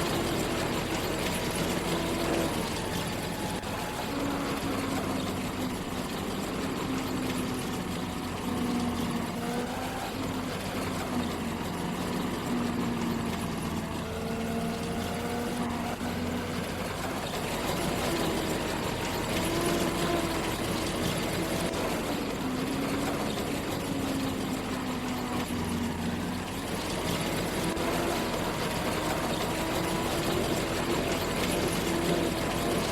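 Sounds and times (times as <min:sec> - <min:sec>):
harvest machinery engine humming: 0:00.0 - 0:32.9.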